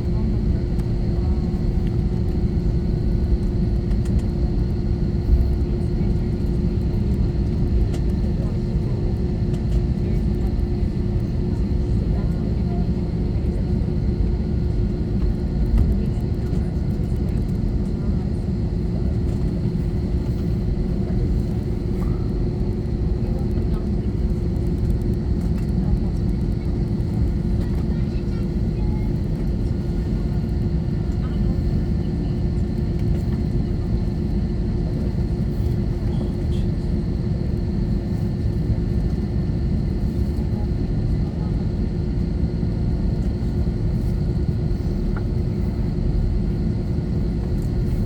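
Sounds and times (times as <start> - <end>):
airliner cabin engine rumble: 0.0 - 48.0.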